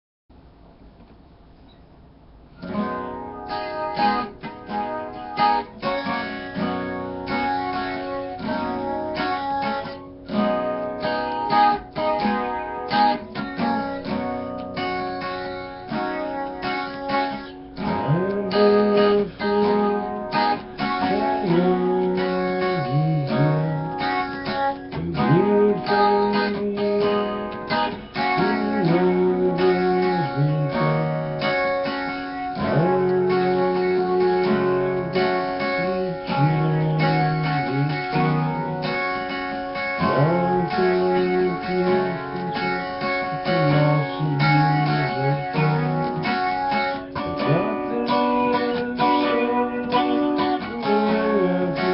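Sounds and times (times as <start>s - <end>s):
acoustic guitar strumming chords: 2.5s - 51.9s
sliding guitar notes: 2.6s - 51.9s.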